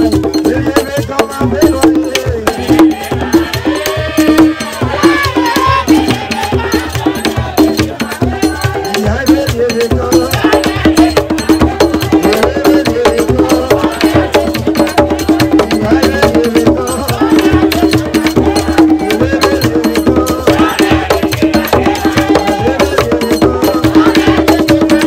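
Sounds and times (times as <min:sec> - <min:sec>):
drum and percussion rhythm: 0:00.0 - 0:25.0
people singing: 0:00.0 - 0:25.0.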